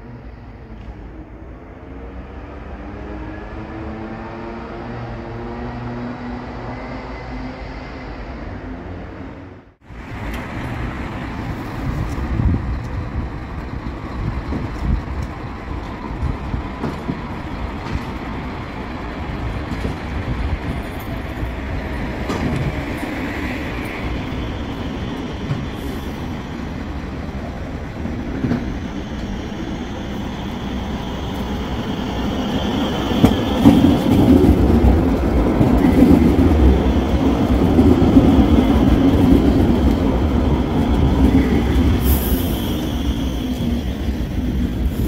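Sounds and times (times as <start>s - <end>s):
street traffic rumble: 0.0s - 45.0s
tram approaching on tracks: 0.0s - 45.0s.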